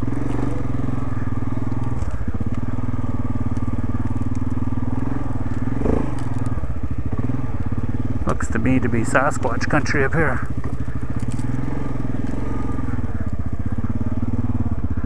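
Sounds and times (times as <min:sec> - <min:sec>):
quad engine running at low revs: 0:00.0 - 0:15.0.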